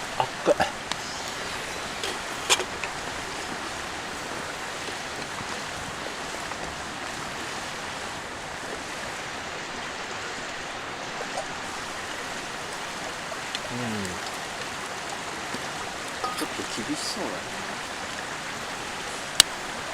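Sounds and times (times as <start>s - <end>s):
stream flowing: 0.0s - 19.9s.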